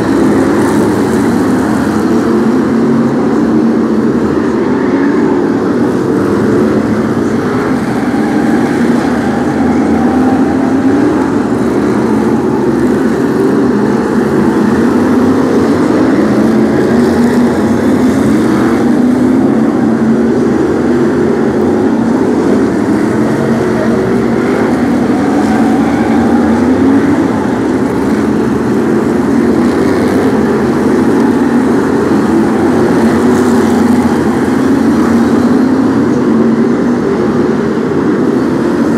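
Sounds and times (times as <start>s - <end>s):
stock car engines revving: 0.0s - 38.9s.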